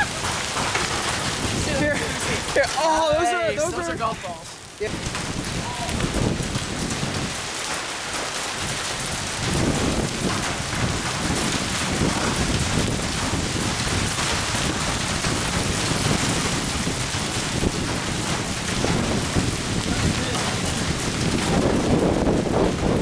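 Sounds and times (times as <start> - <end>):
heavy rain and hail pounding: 0.0 - 23.0.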